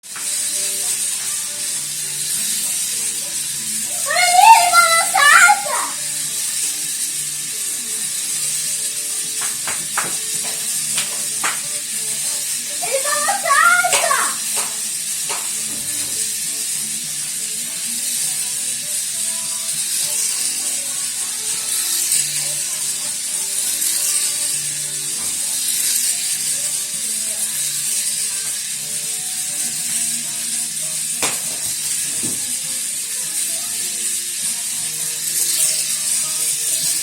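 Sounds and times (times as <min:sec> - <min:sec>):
faint music: 0:00.0 - 0:37.0
toy propeller motor whirring: 0:00.0 - 0:37.0.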